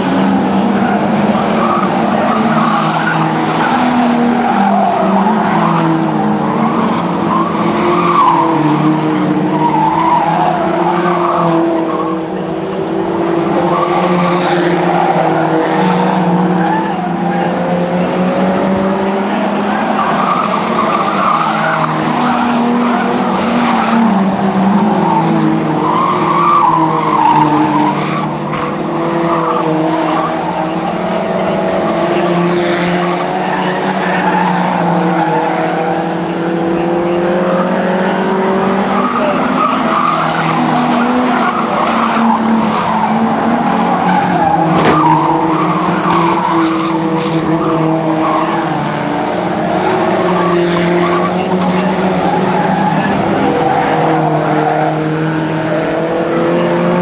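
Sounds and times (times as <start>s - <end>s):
race car engines revving: 0.0s - 57.0s
tyres sliding on dirt: 0.0s - 57.0s.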